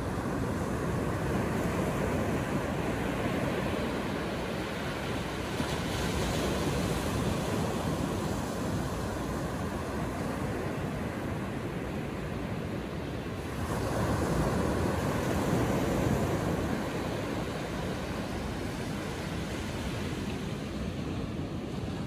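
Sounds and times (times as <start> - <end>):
surf waves breaking: 0.0 - 22.0.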